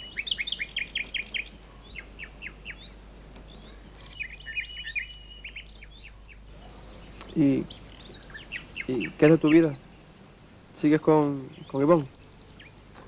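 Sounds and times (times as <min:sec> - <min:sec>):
faint low background noise: 0:00.0 - 0:13.0
small birds chirping: 0:00.0 - 0:13.0.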